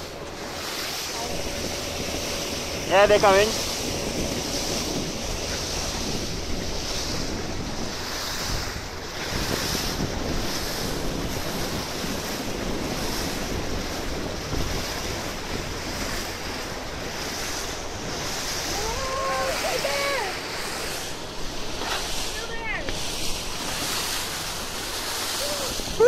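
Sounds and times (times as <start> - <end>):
water streaming past boat hull: 0.0 - 26.0
wind buffeting microphone: 0.0 - 26.0.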